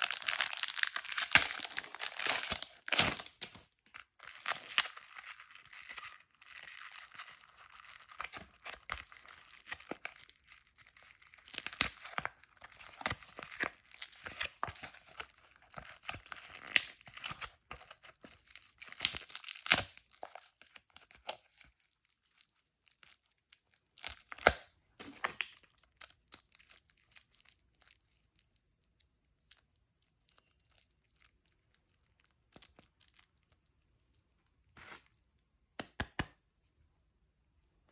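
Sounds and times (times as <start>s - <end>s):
plastic wrapper crinkling: 0.0s - 35.1s.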